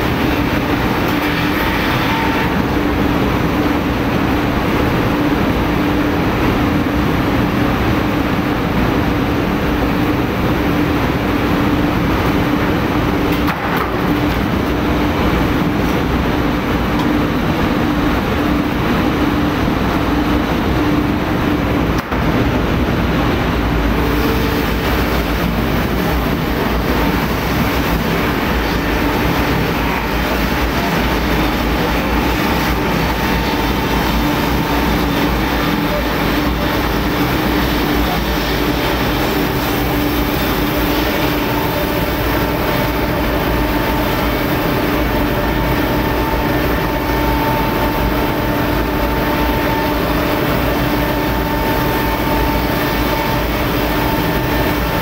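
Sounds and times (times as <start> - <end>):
steady hum: 0.0 - 55.0
sawmill machinery din: 9.6 - 55.0.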